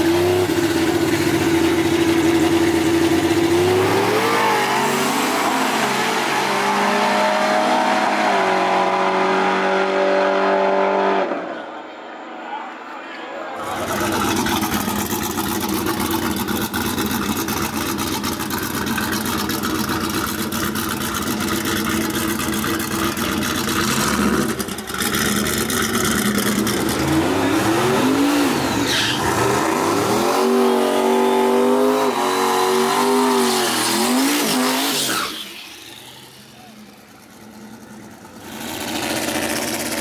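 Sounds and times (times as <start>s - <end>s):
truck engines running loud: 0.0s - 10.9s, 13.5s - 40.0s.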